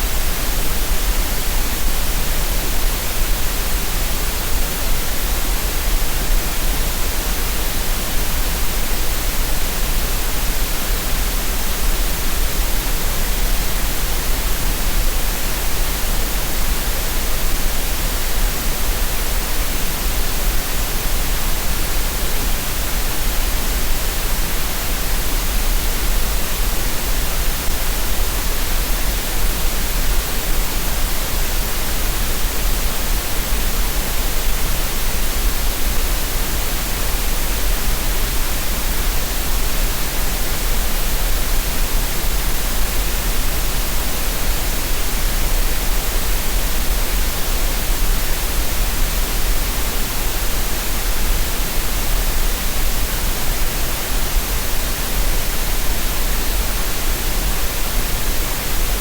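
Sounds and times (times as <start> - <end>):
steady green noise hiss: 0.0 - 59.0.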